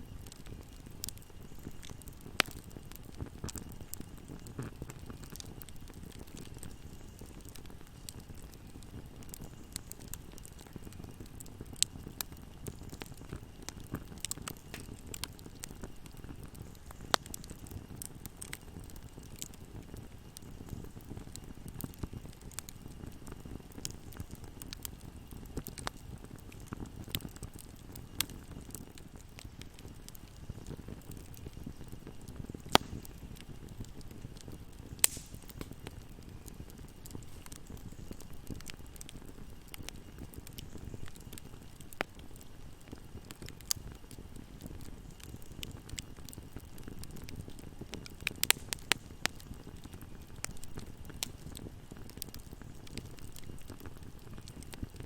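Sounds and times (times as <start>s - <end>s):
fire crackling: 0.0s - 55.0s
rumble of flames: 0.0s - 55.0s
sharp pops of fire: 0.2s - 55.0s.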